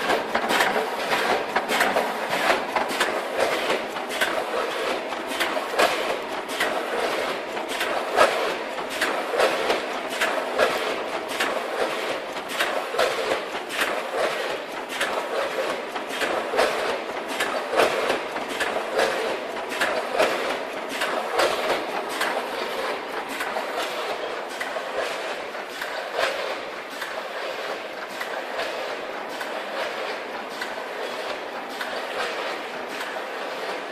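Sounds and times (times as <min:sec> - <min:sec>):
rapid irregular clicks and clacks: 0:00.0 - 0:33.9.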